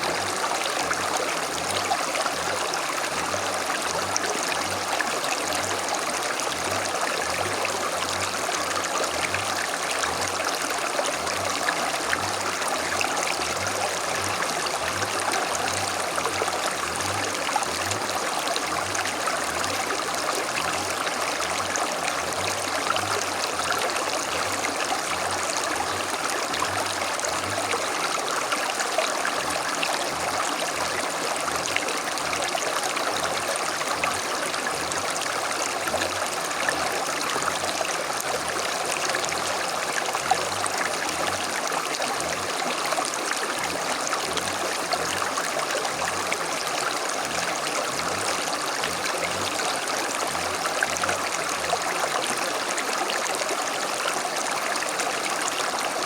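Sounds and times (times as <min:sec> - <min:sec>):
creek running over stones: 0:00.0 - 0:56.0.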